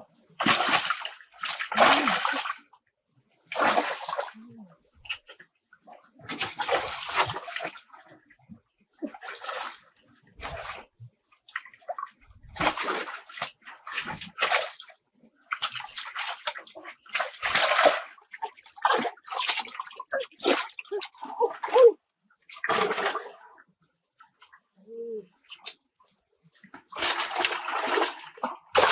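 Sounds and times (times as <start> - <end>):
water splashing and sloshing: 0.0 - 28.9.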